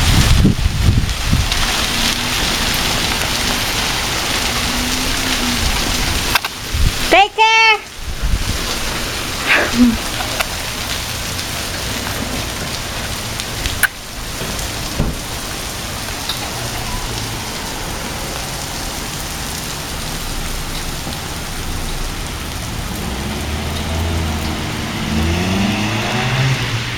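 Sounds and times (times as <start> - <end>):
rain and hail striking surfaces: 0.0 - 26.9.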